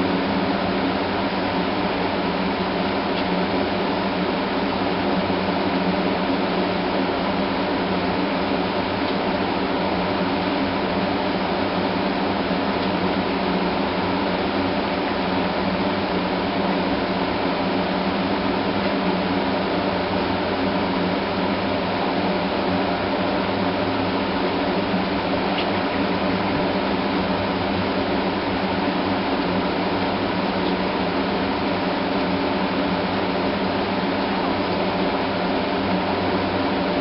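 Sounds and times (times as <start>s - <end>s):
steady mechanical drone with hum: 0.0s - 37.0s.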